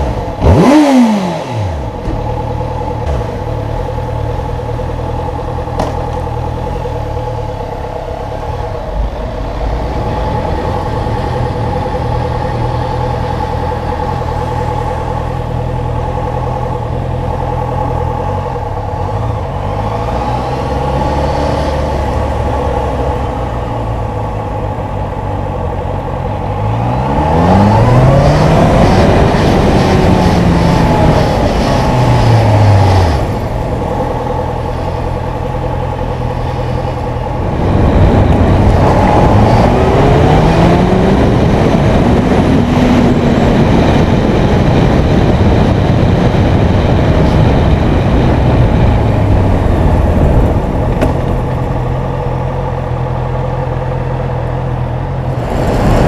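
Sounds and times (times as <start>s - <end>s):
motorcycle engine revving through gears: 0.0s - 56.0s
wind and road noise: 0.0s - 56.0s.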